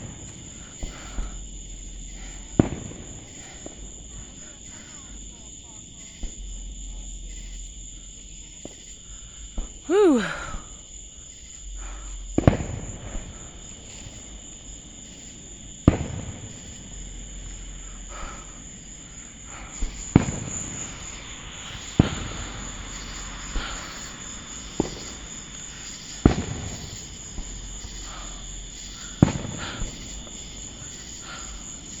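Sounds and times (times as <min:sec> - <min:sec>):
fireworks bangs with echo: 0:00.0 - 0:09.8, 0:11.6 - 0:32.0
insect chirring: 0:00.0 - 0:32.0.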